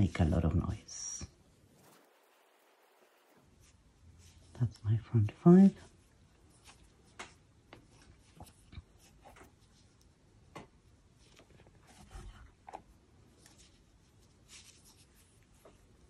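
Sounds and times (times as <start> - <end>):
yarn and crochet hook rustles: 0.0 - 10.2, 11.1 - 16.0.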